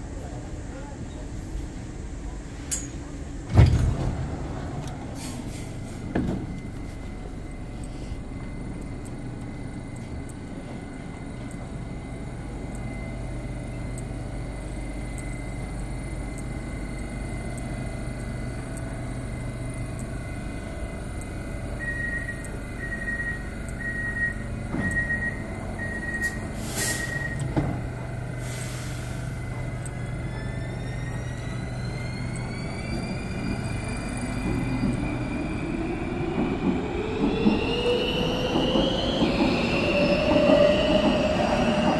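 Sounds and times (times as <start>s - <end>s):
rumble of wheels on rails: 0.0s - 41.9s
train standing hum: 0.0s - 41.9s.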